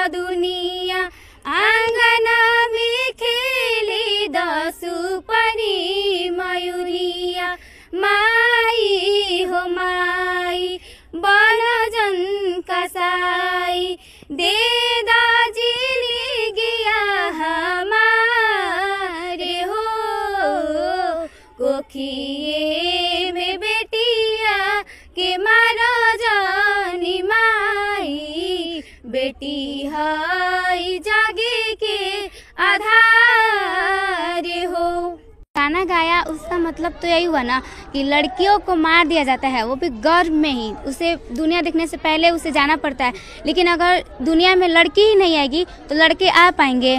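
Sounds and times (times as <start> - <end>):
girls singing unaccompanied: 0.0 - 46.9.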